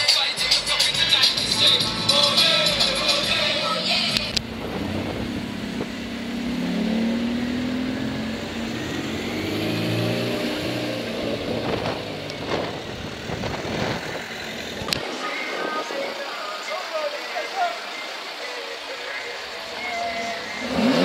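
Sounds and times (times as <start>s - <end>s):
car engine accelerating: 0.2s - 21.0s.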